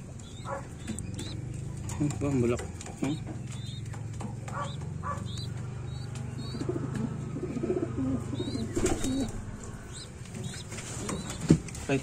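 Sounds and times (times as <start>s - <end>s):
pigeons cooing: 0.0s - 11.9s.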